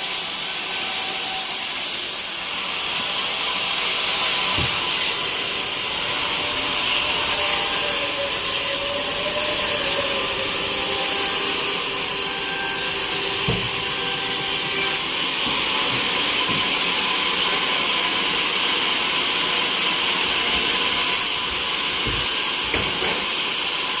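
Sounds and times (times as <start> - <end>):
band saw cutting log: 0.0 - 24.0.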